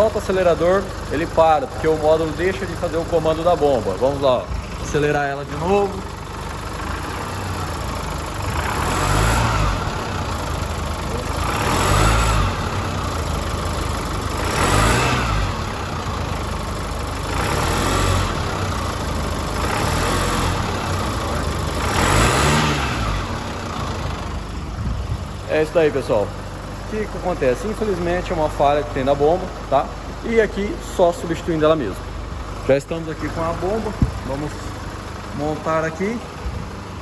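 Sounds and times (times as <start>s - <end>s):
diesel engine revving: 0.0s - 37.0s
engine clatter: 0.0s - 37.0s.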